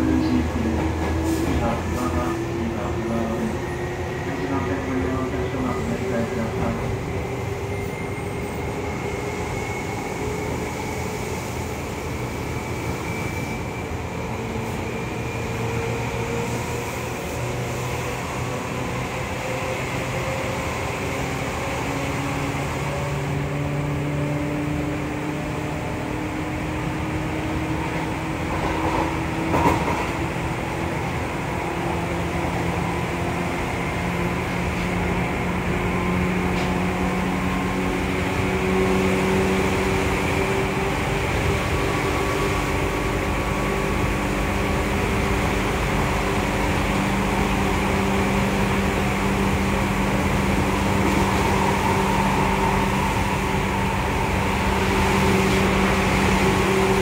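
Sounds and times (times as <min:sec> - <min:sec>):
wheel and rail rumble: 0:00.0 - 0:57.0.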